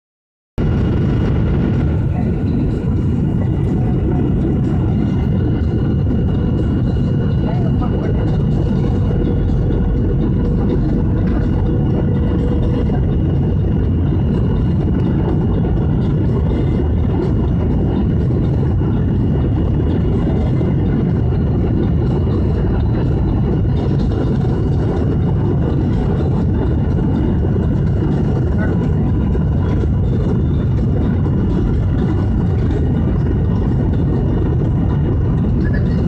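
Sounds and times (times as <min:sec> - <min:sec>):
aircraft engine low rumble: 0:00.6 - 0:36.0.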